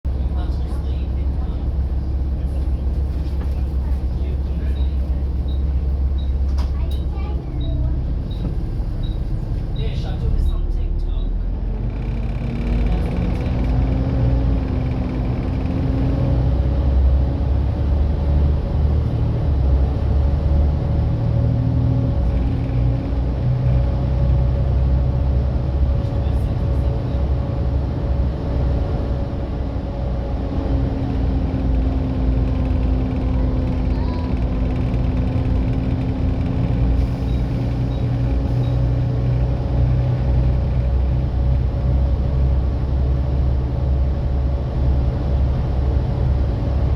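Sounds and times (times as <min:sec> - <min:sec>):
bus diesel engine whining drone: 0:00.1 - 0:46.9.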